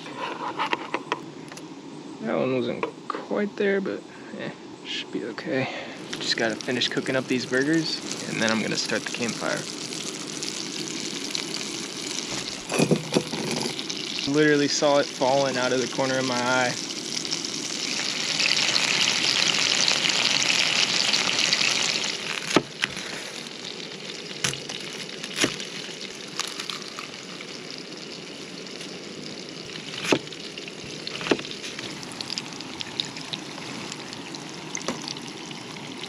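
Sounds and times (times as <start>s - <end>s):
patties sizzling in a frying pan: 5.9s - 36.0s.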